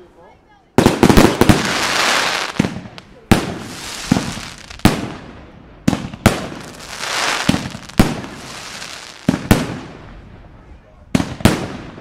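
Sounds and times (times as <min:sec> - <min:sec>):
firework bangs: 0:00.8 - 0:10.2, 0:11.1 - 0:12.0
fireworks crackling: 0:00.8 - 0:12.0.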